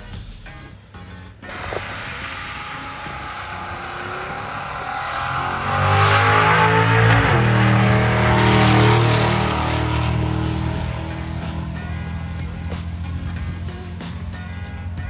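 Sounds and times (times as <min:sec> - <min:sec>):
drag car engine at full throttle: 0:00.5 - 0:15.0.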